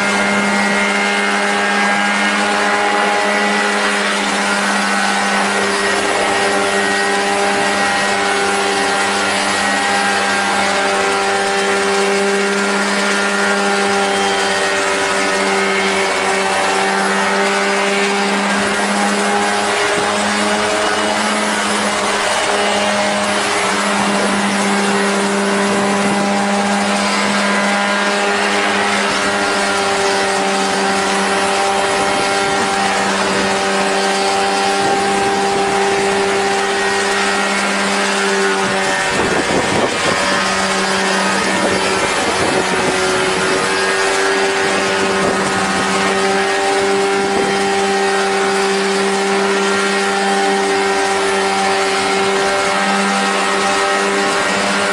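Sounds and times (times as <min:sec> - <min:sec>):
light aircraft propeller engine: 0:00.0 - 0:54.9.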